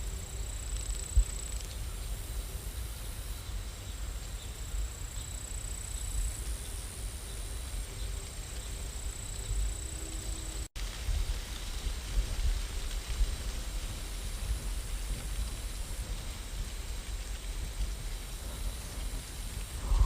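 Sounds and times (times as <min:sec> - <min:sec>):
rain: 0:00.0 - 0:20.0.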